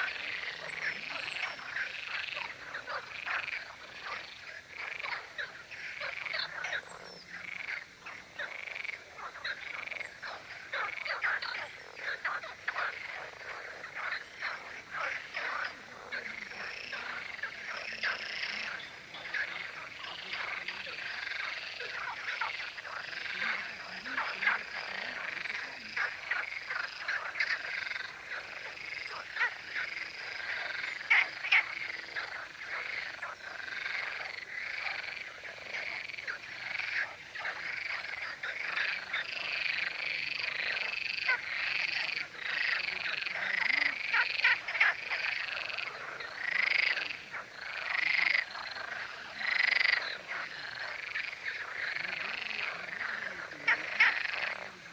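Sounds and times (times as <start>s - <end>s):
frogs croaking in chorus: 0.0s - 54.9s.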